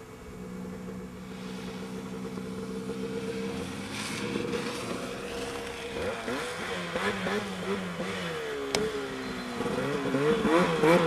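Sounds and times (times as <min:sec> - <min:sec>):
snowmobile engine drone: 0:00.0 - 0:11.0.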